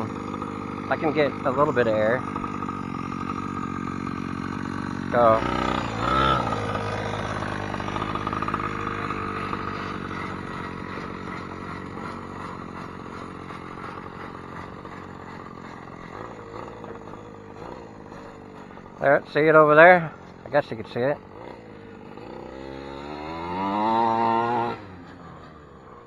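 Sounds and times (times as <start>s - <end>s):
two-stroke engine revving high: 0.0s - 26.0s.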